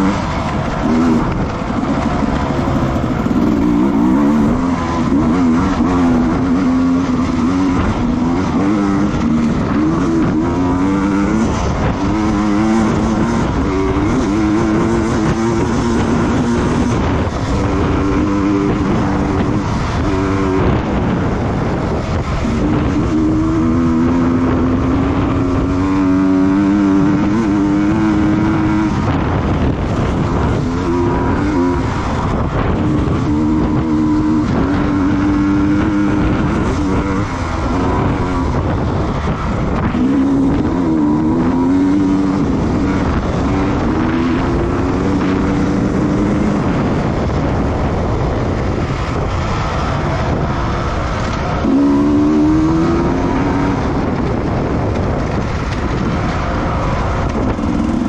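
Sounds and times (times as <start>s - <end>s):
heavy rushing noise: 0.0s - 58.0s
racing motorcycle engine revving: 0.0s - 58.0s.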